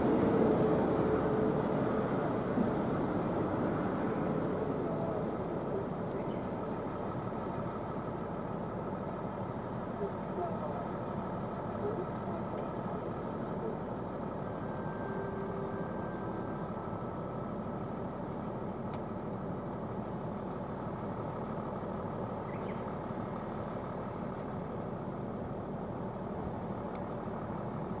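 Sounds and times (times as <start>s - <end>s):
truck engine rumbling: 0.0s - 28.0s.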